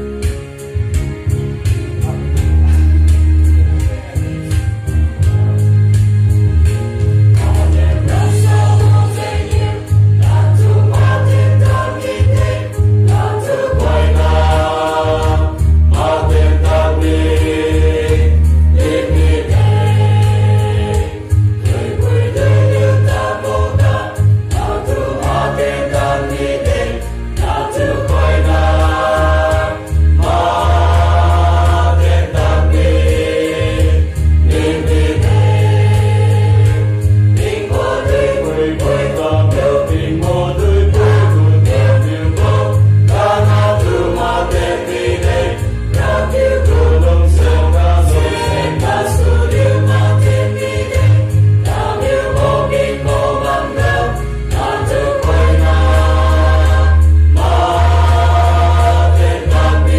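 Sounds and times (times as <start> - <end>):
low bass accompaniment: 0.0 - 59.9
choir singing a hymn: 7.0 - 59.9.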